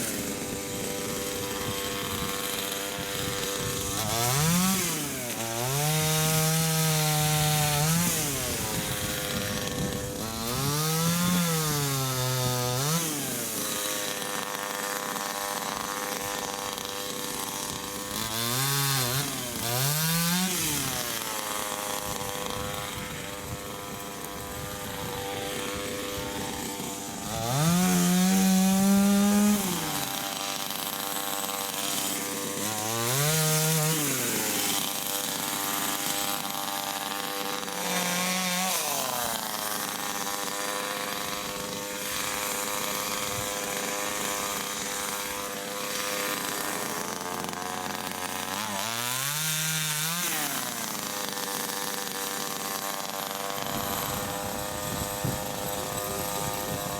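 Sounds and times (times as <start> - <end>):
chainsaw engine idling and revving: 0.0 - 56.9.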